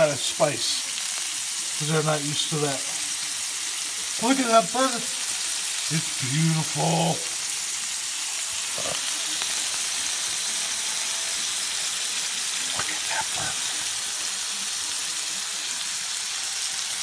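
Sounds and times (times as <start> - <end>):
food sizzling on a griddle: 0.0 - 17.0.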